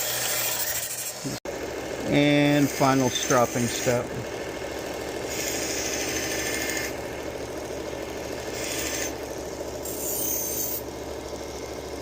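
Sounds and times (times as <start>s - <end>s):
belt grinder running: 0.0s - 12.0s.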